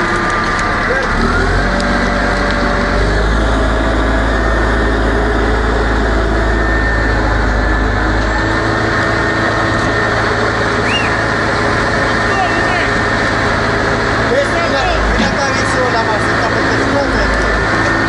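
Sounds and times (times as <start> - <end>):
deep low hum: 0.0 - 18.0
heavy equipment engine running: 0.0 - 18.0.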